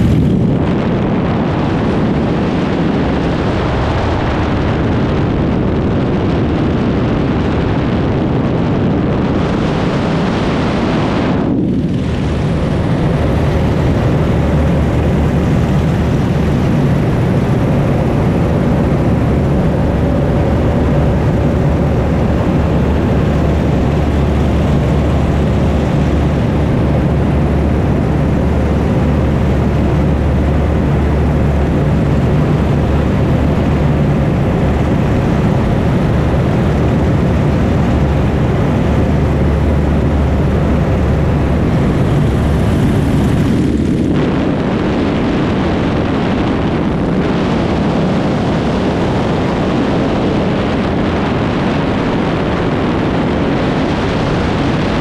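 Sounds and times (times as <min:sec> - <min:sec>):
loud rushing noise: 0:00.0 - 0:55.0
low engine drone: 0:00.0 - 0:55.0.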